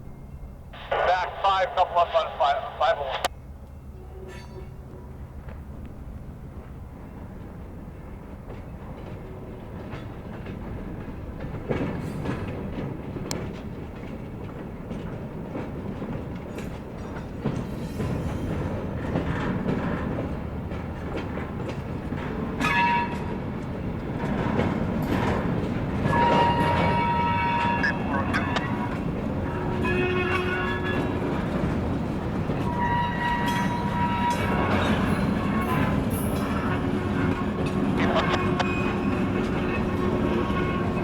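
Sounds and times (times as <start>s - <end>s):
diesel locomotive rumbling: 0.0s - 41.0s
train clanks: 1.8s - 41.0s
rail clatter: 6.5s - 41.0s.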